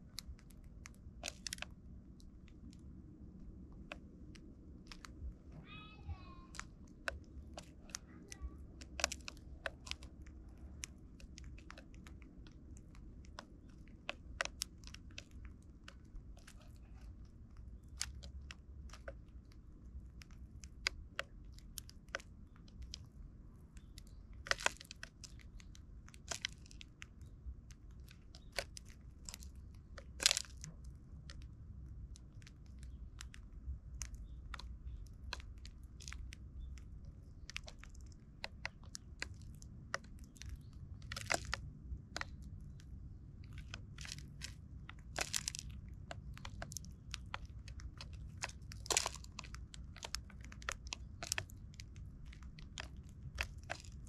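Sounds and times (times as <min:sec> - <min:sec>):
birds pecking seed on plastic: 0:00.0 - 0:54.0.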